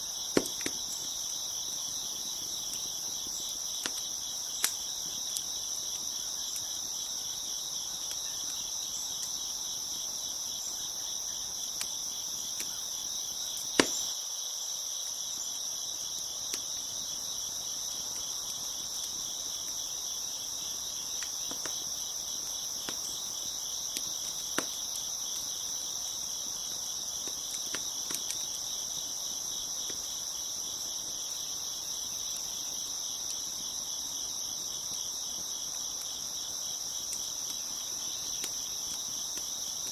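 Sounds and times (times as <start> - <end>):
wood fire crackling and popping: 0.0 - 10.8, 11.4 - 14.2, 16.2 - 39.9
crickets chirping: 0.0 - 39.9.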